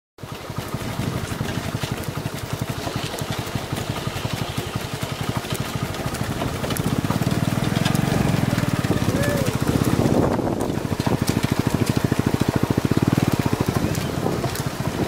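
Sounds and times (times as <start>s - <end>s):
small engine running: 0.2s - 15.0s.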